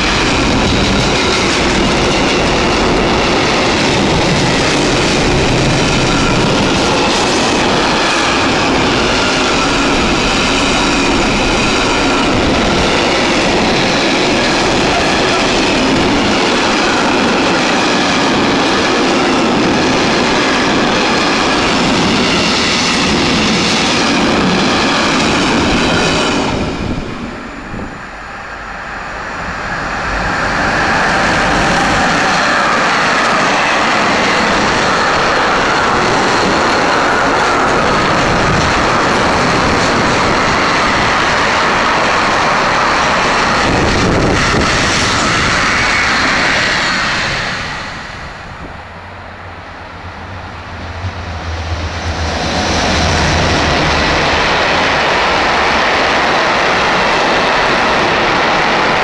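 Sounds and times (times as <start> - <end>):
approaching freight train: 0.0 - 59.0
freight train rumbling past: 0.0 - 59.0.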